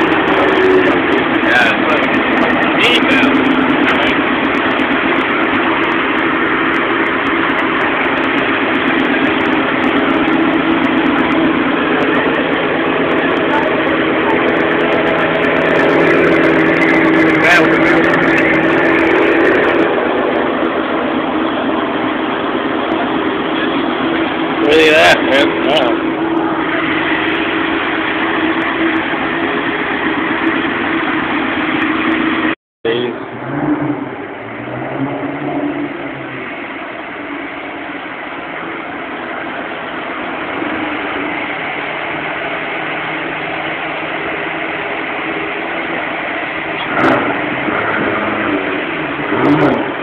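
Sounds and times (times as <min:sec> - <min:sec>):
sports car engine idling: 0:00.0 - 0:50.0.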